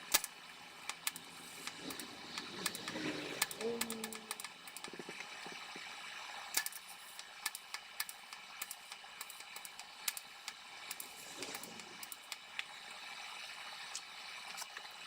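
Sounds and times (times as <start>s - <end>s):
welding arc hissing and crackling: 0.0s - 5.8s, 6.4s - 13.0s.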